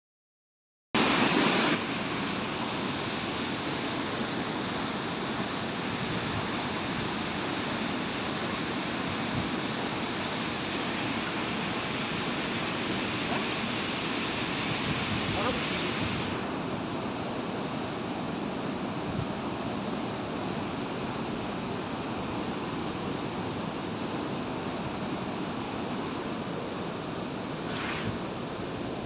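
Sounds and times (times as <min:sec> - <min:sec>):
water rushing through sluice gates: 0:01.0 - 0:27.0.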